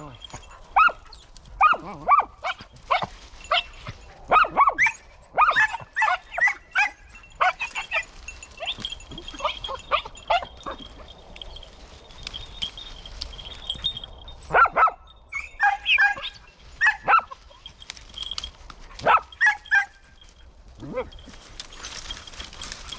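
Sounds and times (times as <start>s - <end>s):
hounds yelping: 0.0s - 22.9s.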